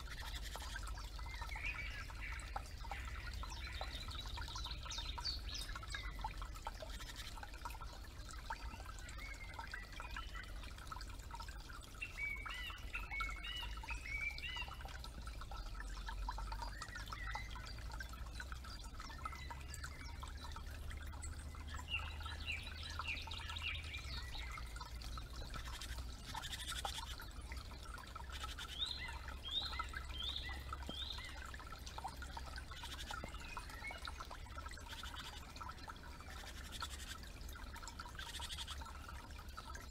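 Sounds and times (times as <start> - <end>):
songbirds singing: 0.0 - 39.9
trickling creek: 0.0 - 39.9.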